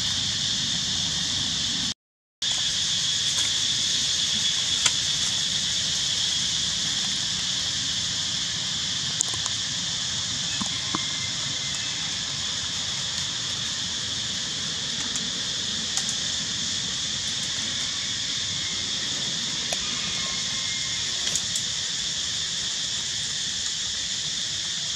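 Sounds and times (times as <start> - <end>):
insect chorus buzzing: 0.0 - 24.9.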